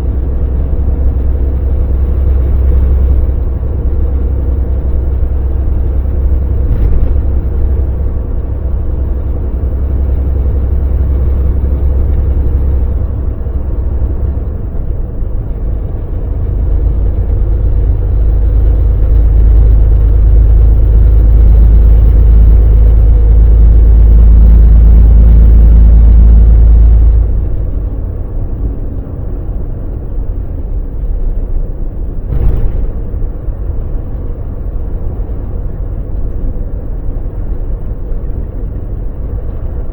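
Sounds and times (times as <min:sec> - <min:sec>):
road rumble: 0:00.0 - 0:39.9
truck diesel engine droning: 0:00.0 - 0:39.9.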